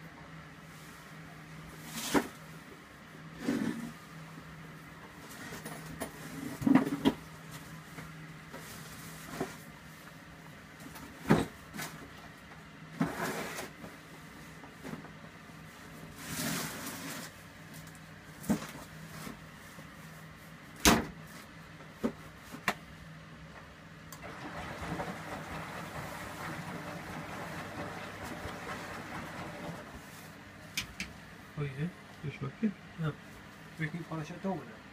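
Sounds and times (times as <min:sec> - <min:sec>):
washing machine hum: 0:00.0 - 0:34.9.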